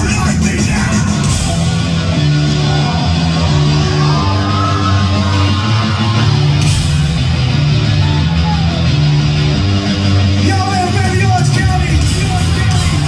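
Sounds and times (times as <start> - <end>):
live heavy rock band: 0.0 - 13.0.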